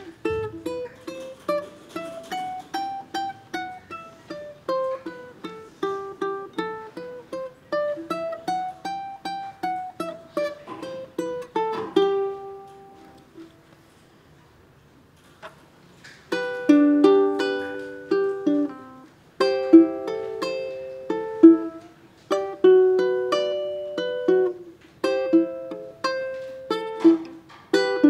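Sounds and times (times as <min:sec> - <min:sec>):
ukulele fingerpicked melody: 0:00.0 - 0:14.8, 0:15.4 - 0:28.0.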